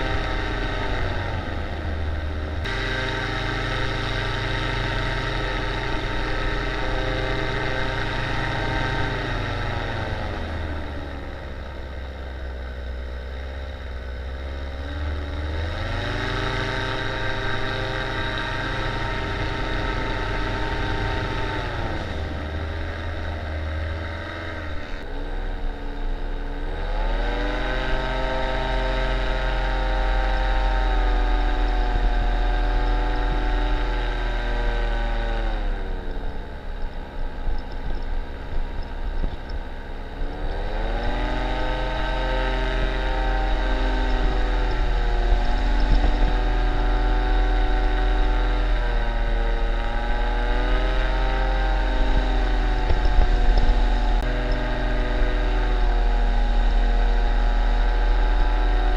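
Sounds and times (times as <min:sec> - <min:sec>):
paramotor engine and propeller: 0:00.0 - 0:58.9.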